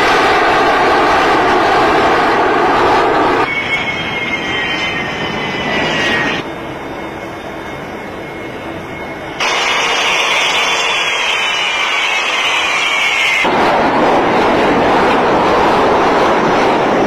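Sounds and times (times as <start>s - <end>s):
airliner engines running: 0.0s - 17.0s
high-pitched engine whine: 1.0s - 17.0s.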